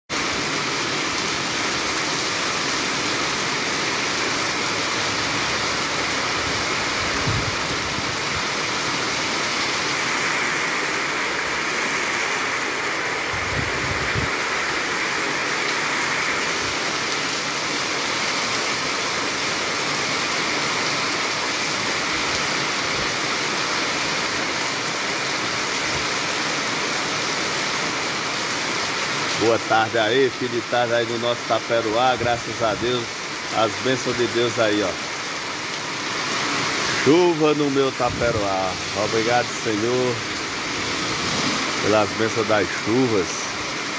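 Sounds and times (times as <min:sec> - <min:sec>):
heavy rain falling: 0:00.1 - 0:43.9.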